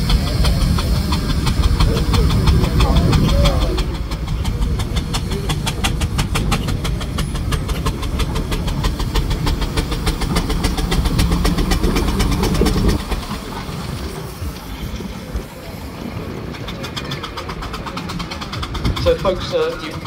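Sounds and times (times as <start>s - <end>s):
heavy low rumble: 0.0s - 20.0s
steam engine exhaust beats: 0.0s - 20.0s.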